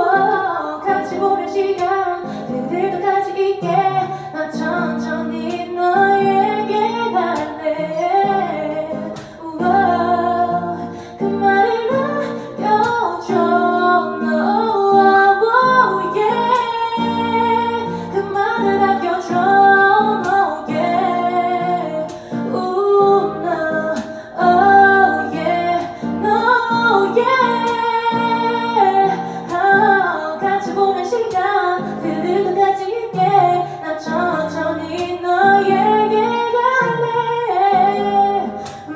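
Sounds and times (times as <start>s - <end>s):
acoustic guitar: 0.0s - 38.9s
woman singing: 0.0s - 38.9s.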